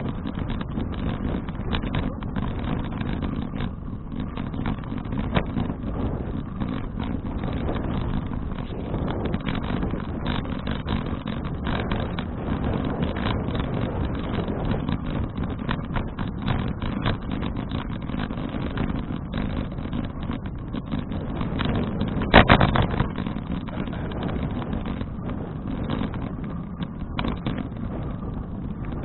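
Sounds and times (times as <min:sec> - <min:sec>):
bicycle road rumble: 0:00.0 - 0:29.0
wind buffeting microphone: 0:00.0 - 0:29.0.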